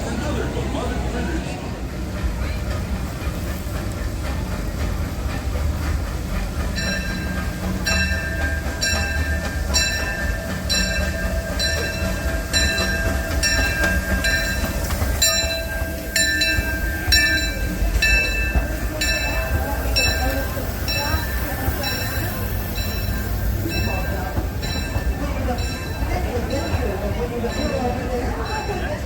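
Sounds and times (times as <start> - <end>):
steam train rumbling: 0.0 - 29.0.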